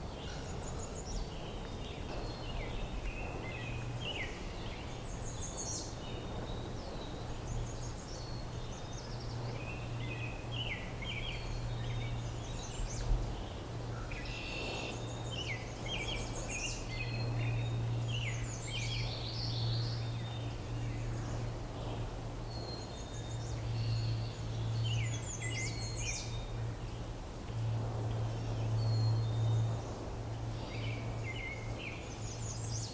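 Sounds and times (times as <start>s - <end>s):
songbirds singing: 0.0s - 32.9s
steady low hum: 0.0s - 32.9s.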